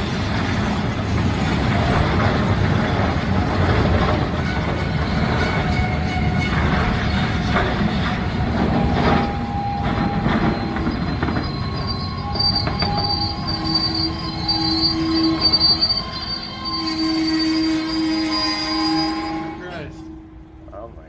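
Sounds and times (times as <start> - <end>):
steel wheels squealing on rails: 0.0 - 21.0
train cars rumbling and clattering: 0.0 - 21.0.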